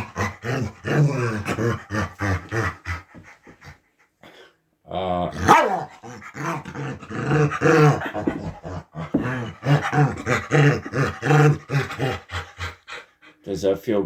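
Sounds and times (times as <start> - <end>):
dog grumbling and groaning: 0.0 - 3.7, 4.9 - 13.0.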